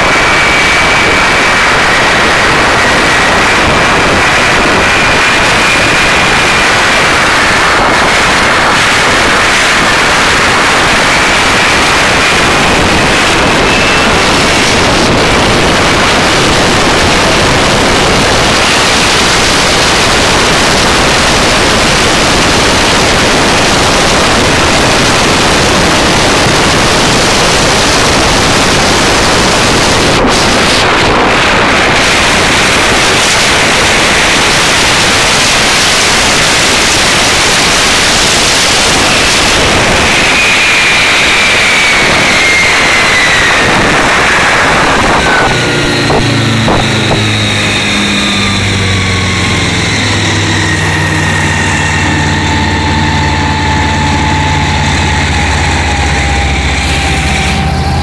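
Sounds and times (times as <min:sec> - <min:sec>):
boat engine roaring: 0:00.0 - 0:58.0
faint high whine: 0:00.0 - 0:58.0
wind and spray: 0:00.0 - 0:58.0.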